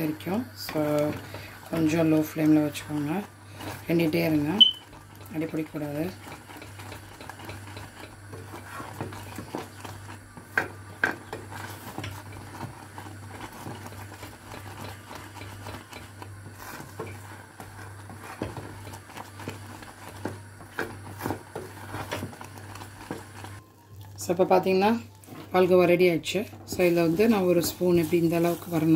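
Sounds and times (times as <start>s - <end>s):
wooden spoon scraping saucepan: 0.6s - 23.6s, 26.5s - 28.9s.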